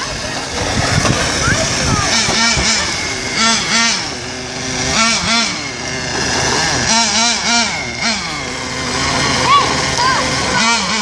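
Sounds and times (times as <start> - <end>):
toy car engine revving: 0.0 - 11.0.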